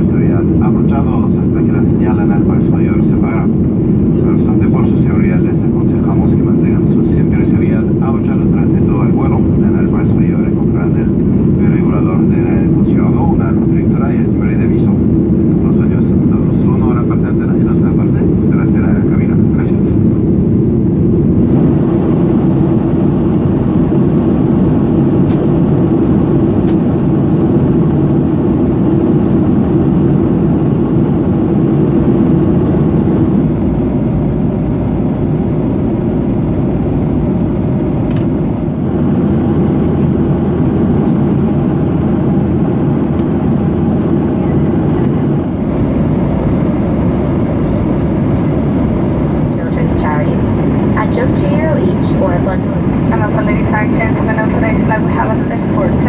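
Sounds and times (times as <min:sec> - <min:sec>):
air rushing over aircraft: 0:00.0 - 0:56.0
jet engine drone: 0:00.0 - 0:56.0.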